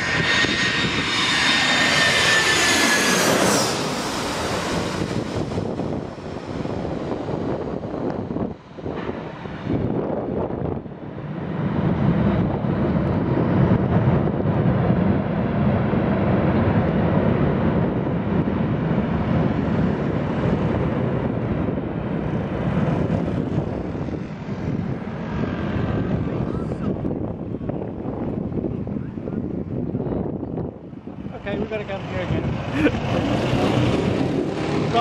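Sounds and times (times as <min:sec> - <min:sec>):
jet engines on reverse thrust: 0:00.0 - 0:35.0.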